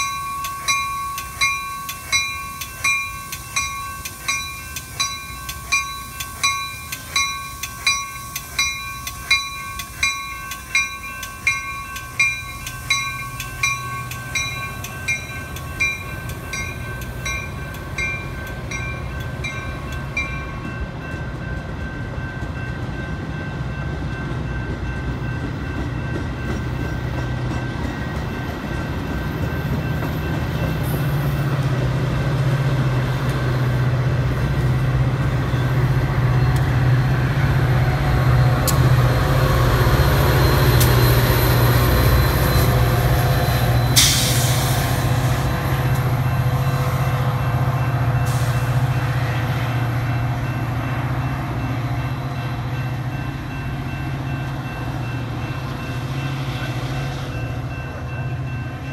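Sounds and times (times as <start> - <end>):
diesel locomotive drone: 0.0 - 58.9
train wheels on rails: 0.0 - 58.9.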